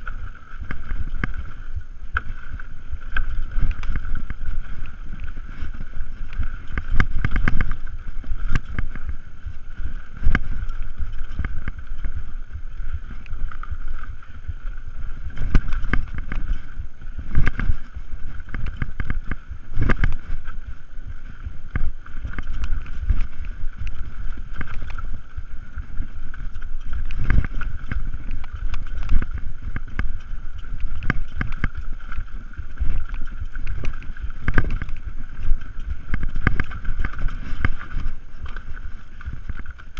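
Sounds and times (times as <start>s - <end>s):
bike knocking and rattling: 0.0s - 39.9s
wind buffeting microphone: 0.0s - 39.9s.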